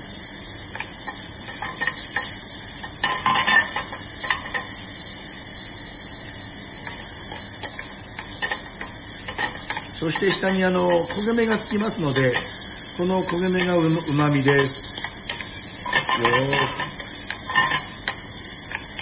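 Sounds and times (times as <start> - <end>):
bacon sizzling in a pan: 0.0 - 19.0.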